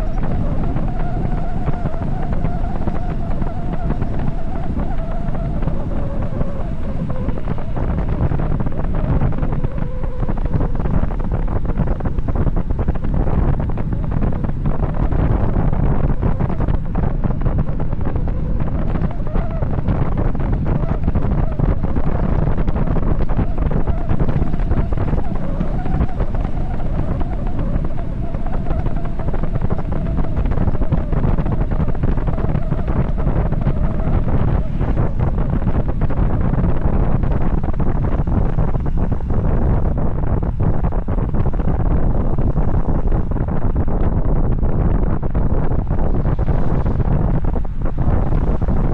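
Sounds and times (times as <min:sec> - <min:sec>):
faint wavering whine: 0:00.0 - 0:48.9
wind buffeting microphone: 0:00.0 - 0:48.9.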